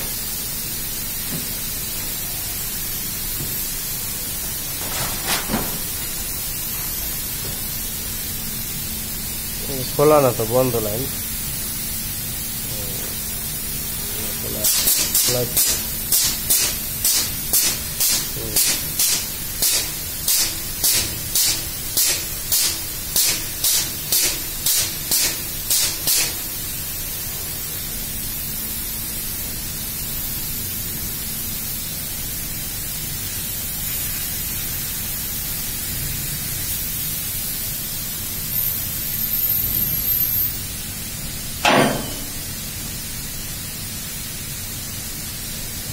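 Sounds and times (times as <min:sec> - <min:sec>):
compressed air hisses: 0:00.0 - 0:45.9.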